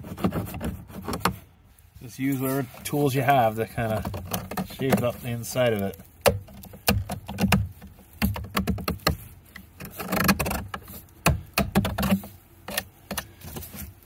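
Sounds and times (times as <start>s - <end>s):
knife blade scraping plastic pipe: 0.0s - 1.5s, 3.8s - 14.0s.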